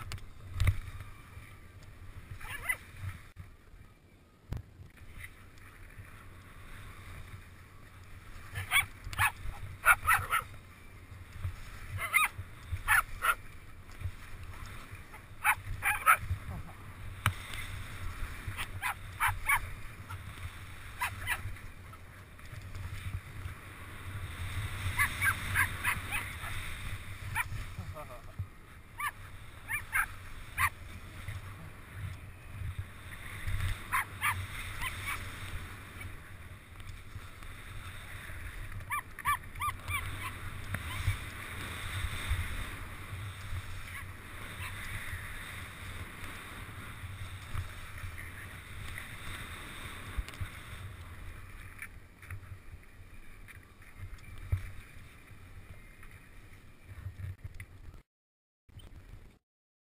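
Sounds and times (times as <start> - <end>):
wind rumbling on microphone: 0.0 - 58.0
skis scraping over snow: 5.0 - 57.2.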